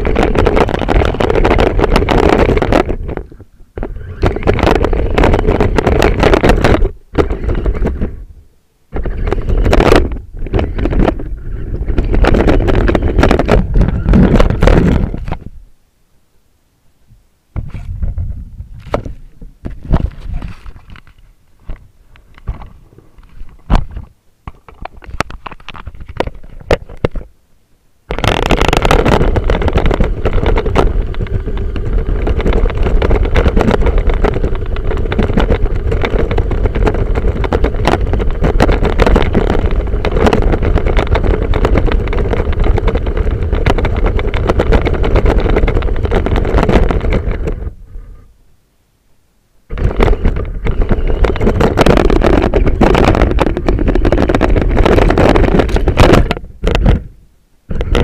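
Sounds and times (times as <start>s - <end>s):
clicks and rattles: 0.0s - 8.2s, 8.9s - 15.5s, 18.8s - 27.3s, 28.1s - 47.7s, 49.7s - 57.1s, 57.7s - 58.0s.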